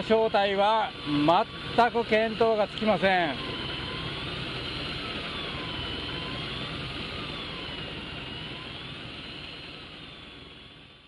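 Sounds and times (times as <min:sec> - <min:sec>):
electric fishing reel whine: 0:00.0 - 0:11.0.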